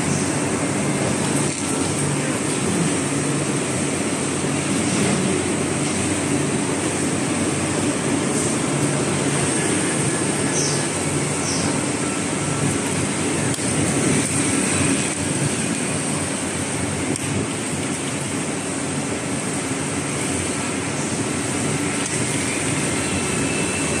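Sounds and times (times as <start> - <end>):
factory machinery rushing noise: 0.0 - 24.0
low machinery hum: 0.0 - 24.0.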